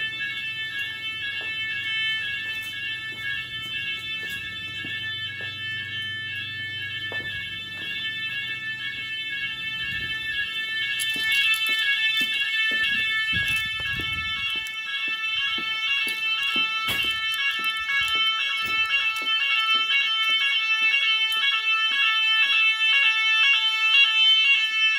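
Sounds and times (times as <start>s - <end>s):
shrill fire alarm sirens: 0.0s - 24.9s.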